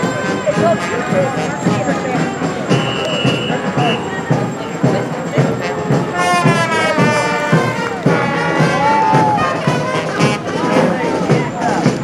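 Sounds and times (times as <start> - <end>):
brass music with gliding notes: 0.0 - 12.0.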